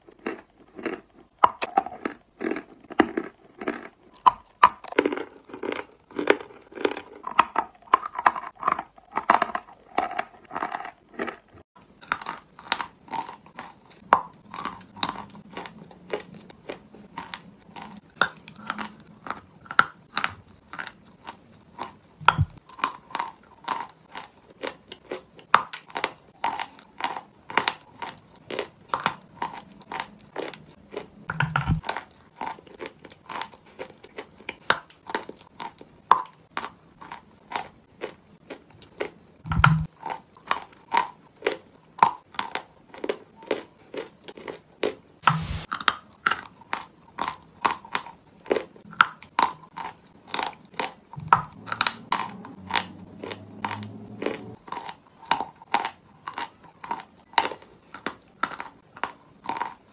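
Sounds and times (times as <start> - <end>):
crunching and chewing chalk: 0.0 - 59.9.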